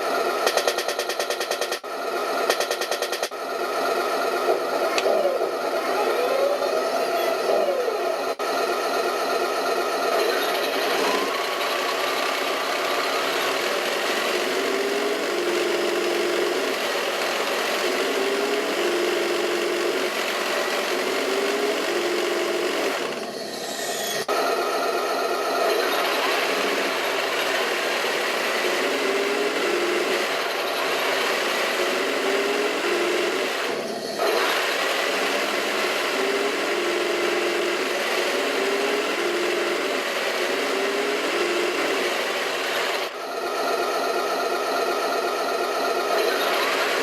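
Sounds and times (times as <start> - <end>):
electronic engine sound effect: 0.0 - 47.0.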